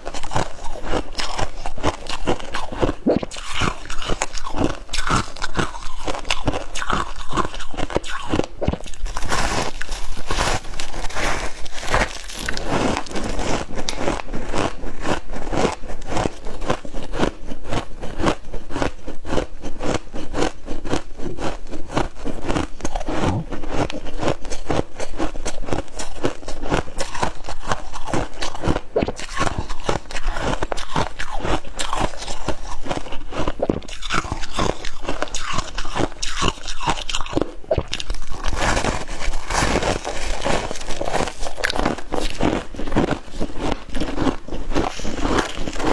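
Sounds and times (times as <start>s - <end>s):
person crunching ice: 0.0s - 45.9s.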